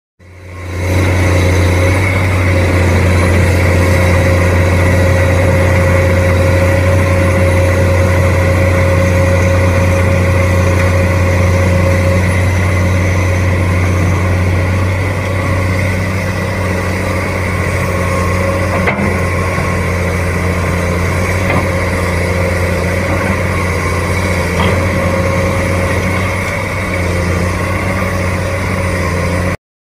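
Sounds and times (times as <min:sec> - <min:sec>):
excavator diesel engine droning: 0:00.2 - 0:29.6.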